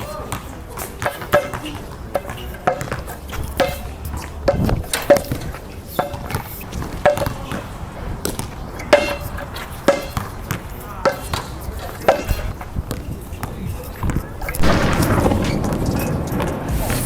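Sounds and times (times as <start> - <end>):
basketball bouncing on hard court: 0.0 - 17.0.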